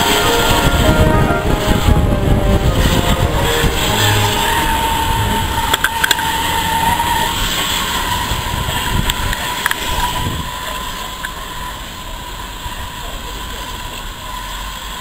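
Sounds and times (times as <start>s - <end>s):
steam train rushing: 0.0s - 15.0s.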